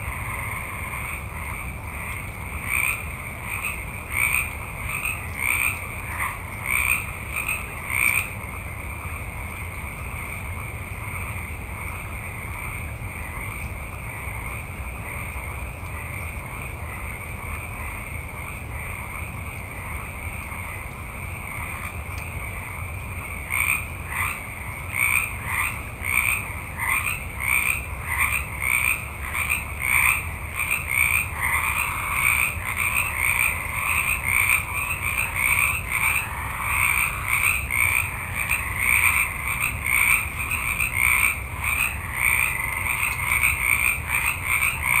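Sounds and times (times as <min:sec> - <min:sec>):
chorus of frogs calling: 0:00.0 - 0:45.0
close frog croaks: 0:00.0 - 0:45.0.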